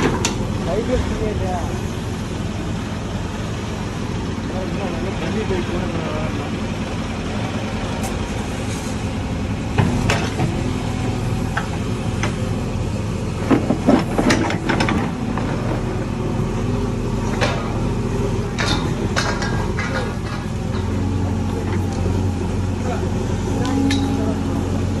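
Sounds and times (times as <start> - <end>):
backhoe diesel engine running: 0.0 - 25.0.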